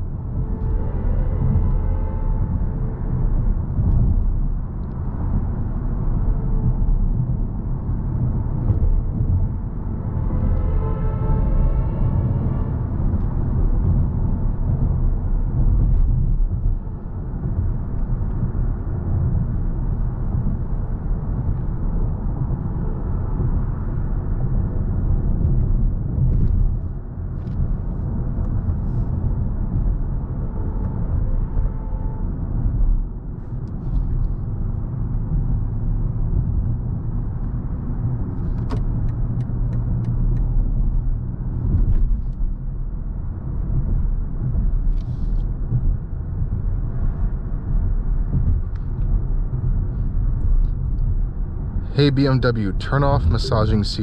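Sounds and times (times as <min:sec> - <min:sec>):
road and tyre noise: 0:00.0 - 0:54.0.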